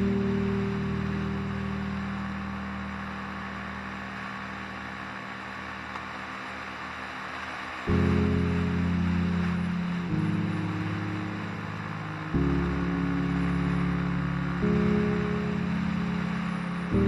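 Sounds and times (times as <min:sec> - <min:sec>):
held music chord: 0:00.0 - 0:06.0, 0:07.8 - 0:17.0.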